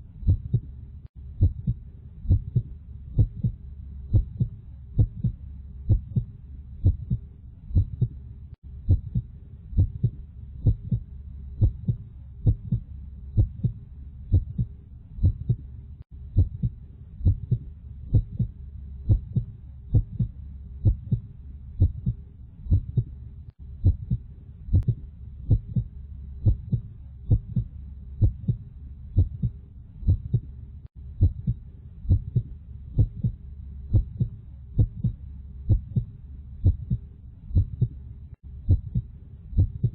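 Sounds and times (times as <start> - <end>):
constant low rumble: 0.0 - 39.9
heartbeat thumps: 0.2 - 39.9.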